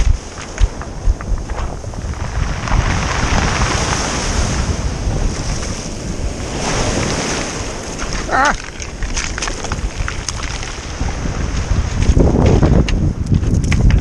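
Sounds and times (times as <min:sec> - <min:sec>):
surf washing over pebbles: 0:00.0 - 0:14.0
wind buffeting microphone: 0:00.0 - 0:14.0.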